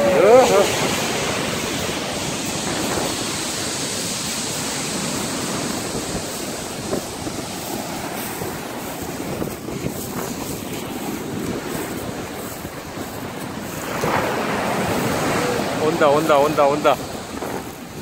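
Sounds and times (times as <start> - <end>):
surf washing over pebbles: 0.0 - 18.0
wind buffeting microphone: 0.0 - 18.0.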